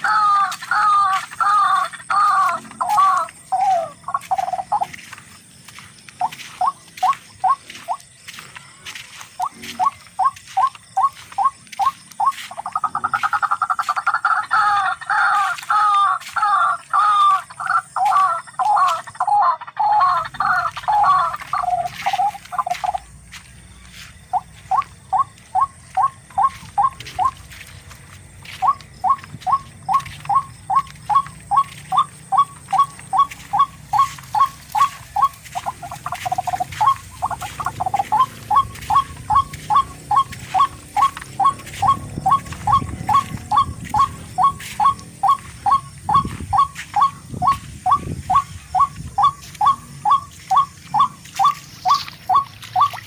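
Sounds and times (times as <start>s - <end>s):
rail bird calling harshly: 0.0s - 4.9s, 9.4s - 23.1s, 24.3s - 27.8s, 28.6s - 53.0s.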